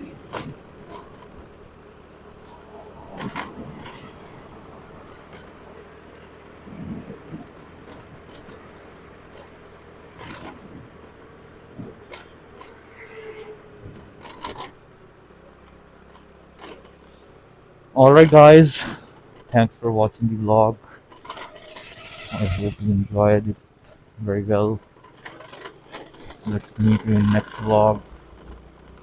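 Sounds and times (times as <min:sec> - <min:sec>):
faint street and vehicle sounds: 0:00.0 - 0:29.0.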